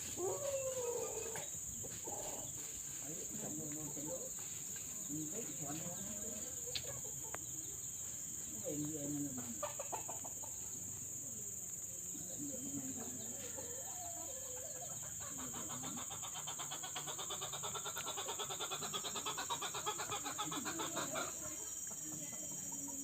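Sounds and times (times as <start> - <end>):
chickens clucking: 0.0 - 23.0
high insect hum: 0.0 - 23.0
fast pulsing chirr: 0.8 - 23.0.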